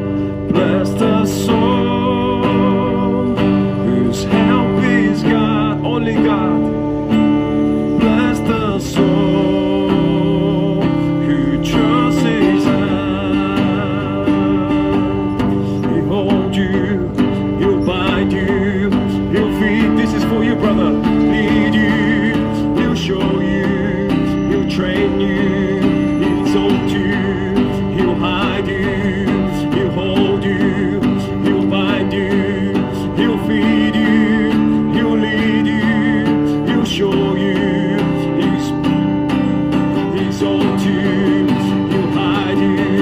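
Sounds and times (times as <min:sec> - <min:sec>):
acoustic guitar strumming: 0:00.0 - 0:43.0
person singing: 0:00.0 - 0:43.0.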